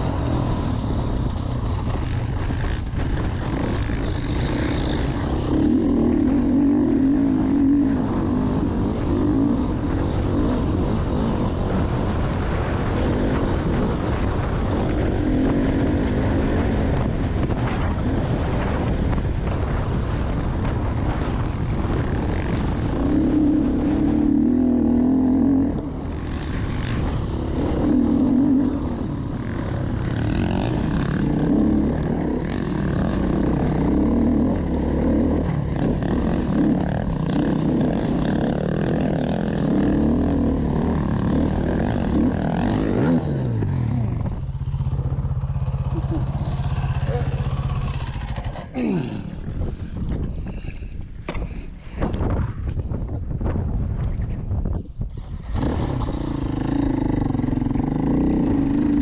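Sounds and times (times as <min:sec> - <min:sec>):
dirt bike engine revving: 0:00.0 - 0:50.0, 0:55.1 - 0:59.0.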